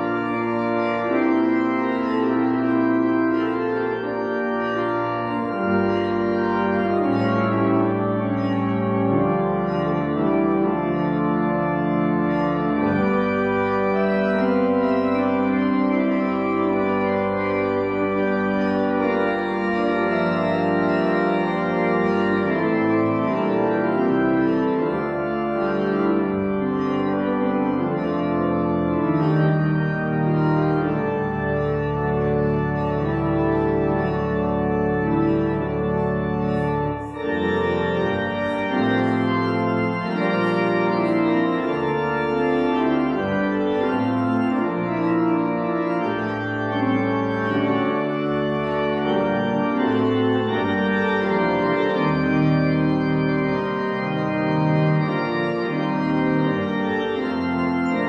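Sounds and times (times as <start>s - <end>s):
organ playing slow chords: 0.0s - 58.0s.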